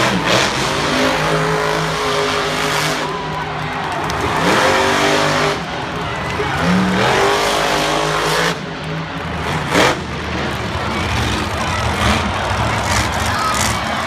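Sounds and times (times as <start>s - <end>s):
monster truck engines revving: 0.0s - 14.0s.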